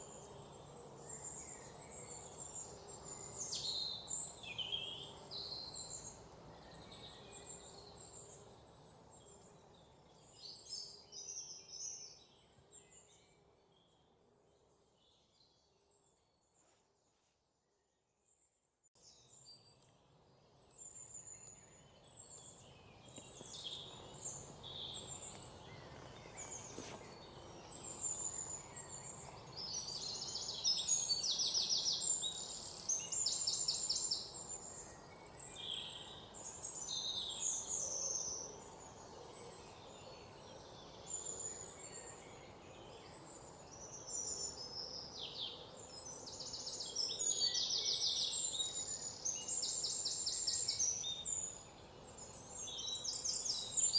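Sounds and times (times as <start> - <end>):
birds singing and trilling: 0.0 - 16.3, 19.0 - 53.9.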